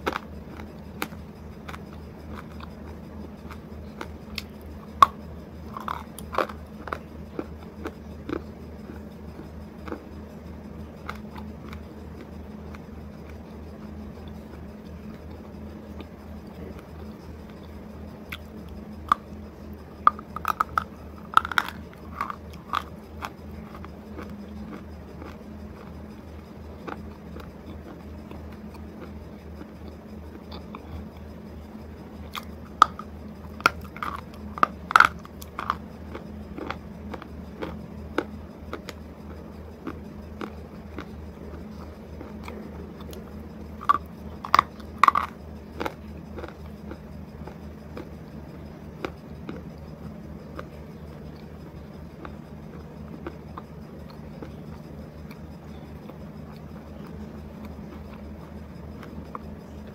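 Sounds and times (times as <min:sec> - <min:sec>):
crunchy biting and chewing: 0:00.0 - 0:59.9
steady low hum: 0:00.0 - 0:59.9.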